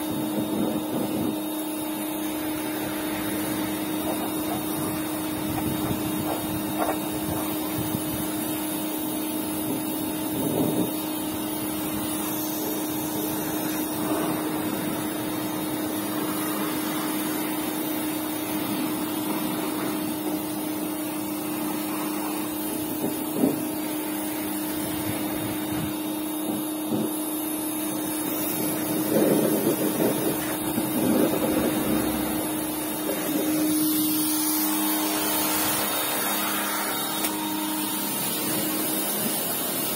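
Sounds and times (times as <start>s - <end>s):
pressure washer motor hum: 0.0s - 39.9s
water spraying: 0.0s - 39.9s.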